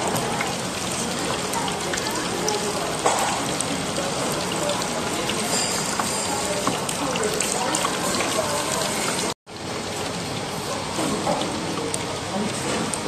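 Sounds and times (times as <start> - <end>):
skewers sizzling in hot oil: 0.0 - 13.0.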